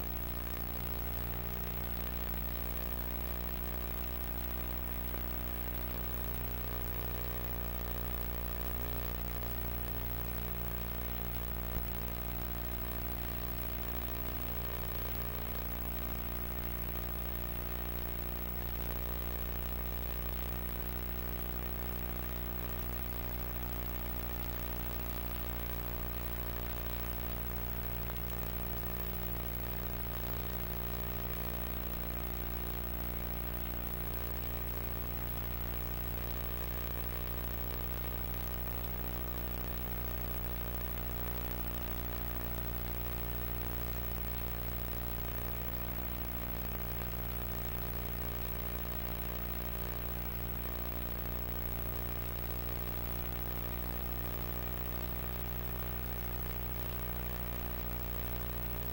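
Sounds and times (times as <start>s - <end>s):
low electrical hum: 0.0s - 58.9s.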